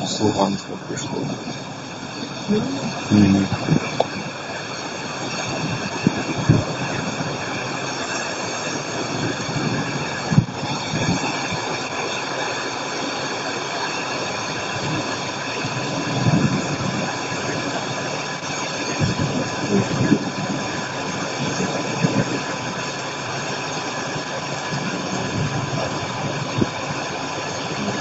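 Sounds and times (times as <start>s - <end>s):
thunder rumbles: 0.0s - 28.0s
wind on microphone: 0.0s - 28.0s.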